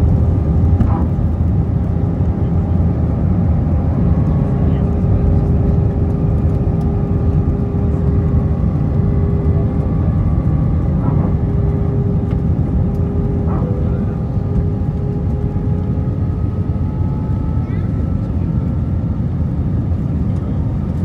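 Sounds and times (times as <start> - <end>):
airplane cabin rumble: 0.0 - 21.0
steady humming tones: 0.0 - 21.0.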